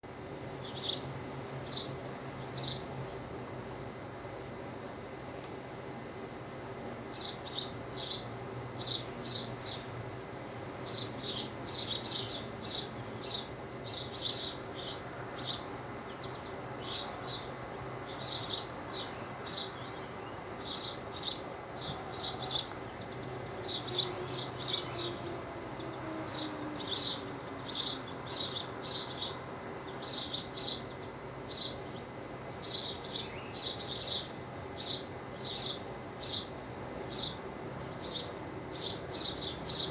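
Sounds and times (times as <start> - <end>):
steady low hum: 0.0 - 39.9
birds chirping: 0.4 - 3.2, 6.5 - 39.9.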